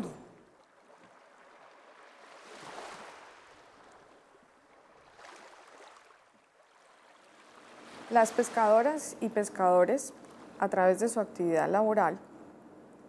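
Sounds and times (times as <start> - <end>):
small sea waves: 0.0 - 10.8.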